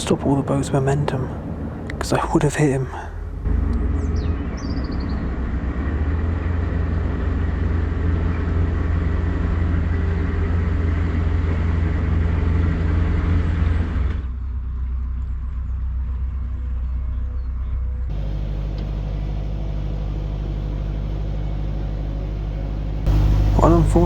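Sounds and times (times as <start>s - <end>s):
diesel engine rumbling: 0.0s - 24.0s.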